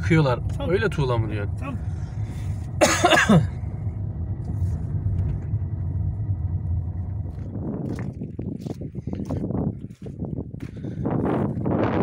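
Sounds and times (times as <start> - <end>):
car rumbling while driving: 0.0 - 11.8.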